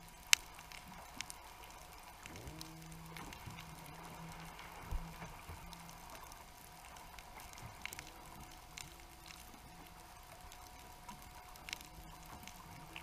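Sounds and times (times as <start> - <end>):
low steady hum: 0.0 - 13.0
sharp underwater clicks and crackles: 0.0 - 13.0.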